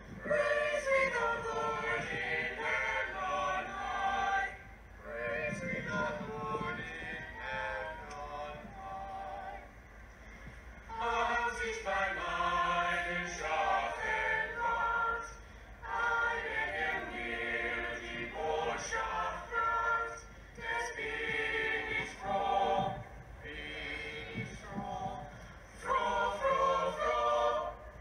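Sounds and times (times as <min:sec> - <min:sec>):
choir singing unaccompanied: 0:00.0 - 0:09.9, 0:10.8 - 0:28.0.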